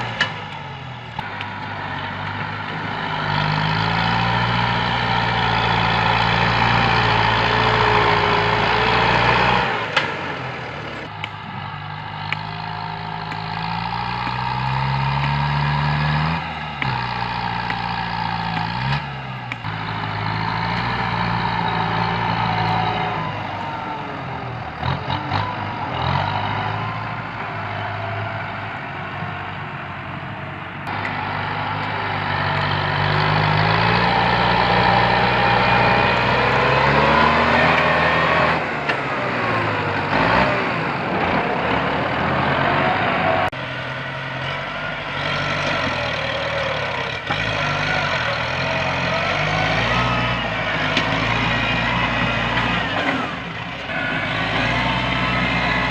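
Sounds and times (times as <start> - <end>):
bulldozer diesel engine revving: 0.0 - 55.9.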